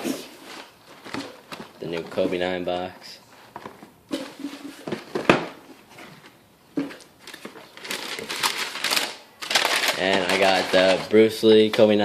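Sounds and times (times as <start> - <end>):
cardboard rustling: 0.0 - 11.9.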